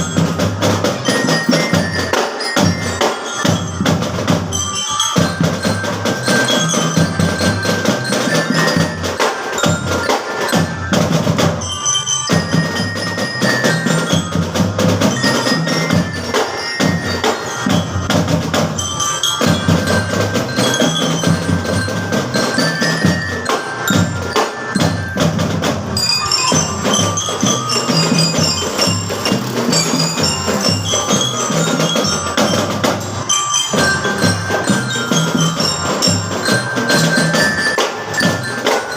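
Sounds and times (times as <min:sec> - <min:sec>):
bell lyres playing a tune: 0:00.0 - 0:38.9
drums playing a steady beat: 0:00.0 - 0:38.9.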